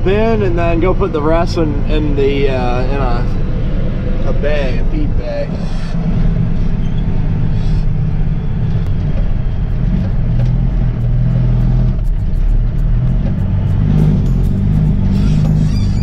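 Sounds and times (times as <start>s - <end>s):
truck diesel engine drone: 0.0s - 16.0s.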